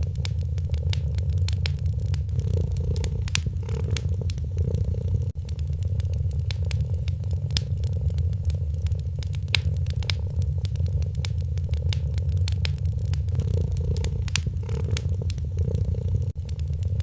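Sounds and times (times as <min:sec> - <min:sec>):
cat purring: 0:00.0 - 0:17.0
wood fire crackling and popping: 0:00.0 - 0:17.0.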